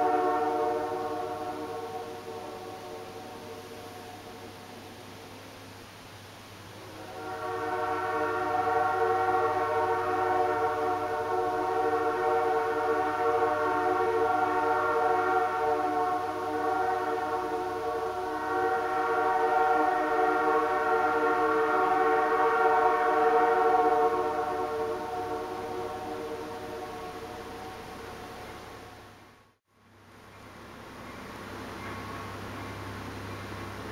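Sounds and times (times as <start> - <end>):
locomotive air horn chord: 0.0 - 29.5.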